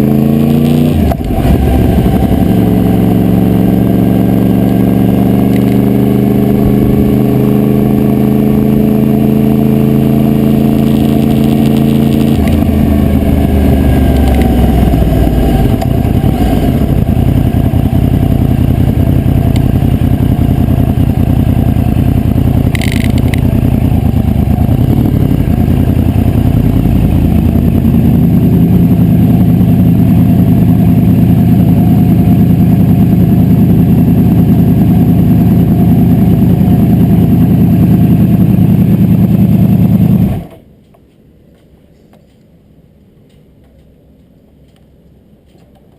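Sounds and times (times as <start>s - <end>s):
motorcycle engine running: 0.0s - 40.6s.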